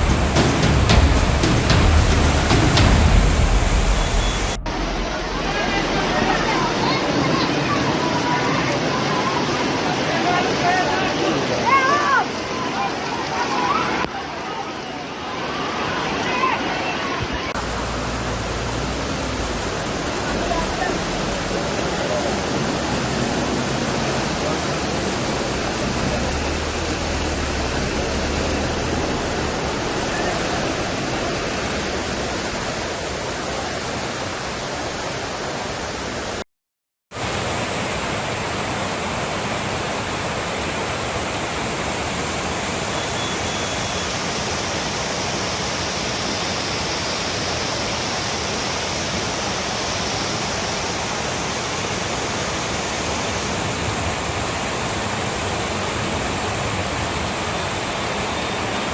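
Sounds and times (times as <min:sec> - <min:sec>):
heavy rain hissing: 0:00.0 - 0:36.0, 0:37.1 - 0:58.9.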